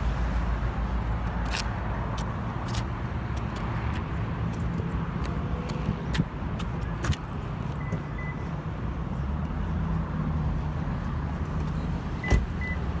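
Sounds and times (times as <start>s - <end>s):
low rumble of motor vehicles: 0.0s - 13.0s.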